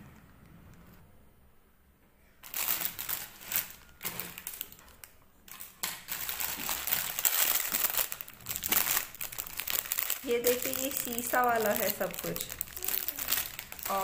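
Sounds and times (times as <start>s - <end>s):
plastic bag crinkling: 2.4s - 14.0s.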